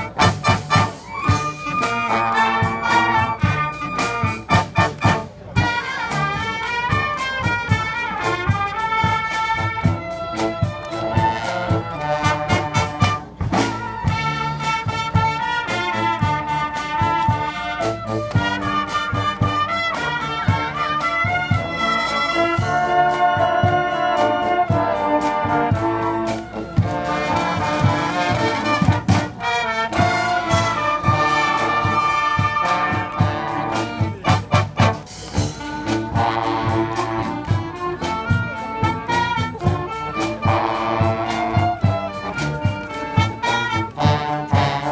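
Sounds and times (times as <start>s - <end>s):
marching band playing: 0.0s - 44.9s.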